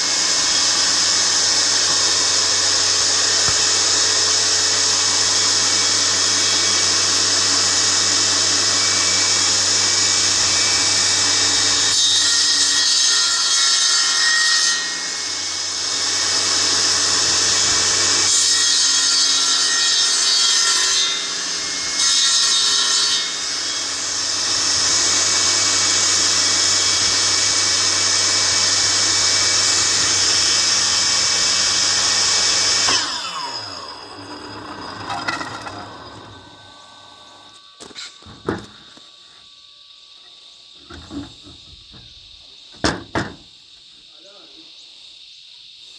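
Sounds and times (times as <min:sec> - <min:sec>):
power saw cutting wood: 0:00.0 - 0:39.8, 0:40.7 - 0:43.5.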